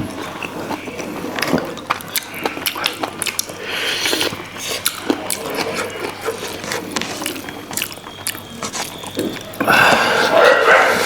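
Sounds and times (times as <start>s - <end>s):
chewing and lip smacks: 0.4s - 9.7s.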